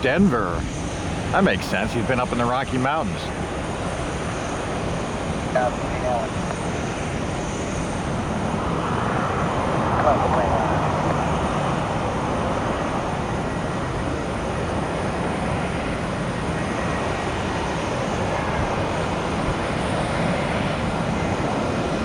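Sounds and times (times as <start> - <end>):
jet engine rushing: 0.0 - 22.0.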